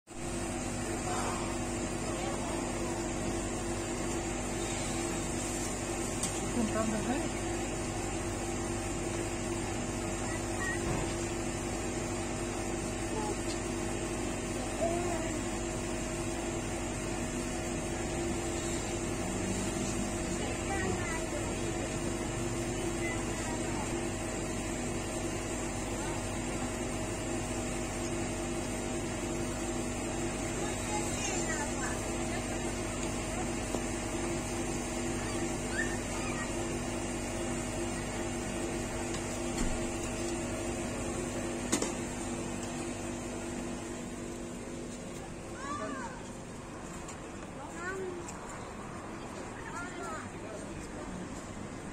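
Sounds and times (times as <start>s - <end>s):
refrigeration unit humming: 0.1s - 51.9s.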